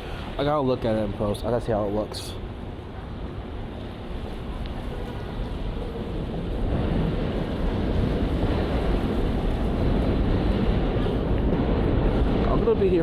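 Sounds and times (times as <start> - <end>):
rumbling street noise: 0.0 - 13.0
wind buffeting microphone: 2.4 - 13.0.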